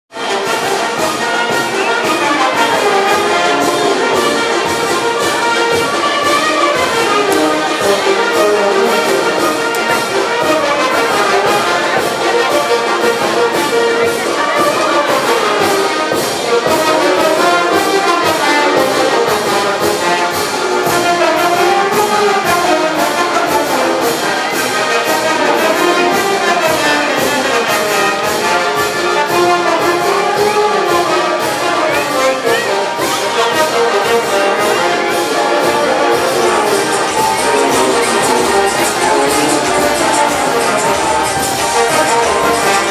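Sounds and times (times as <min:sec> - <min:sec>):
brass band playing dance music: 0:00.1 - 0:42.9.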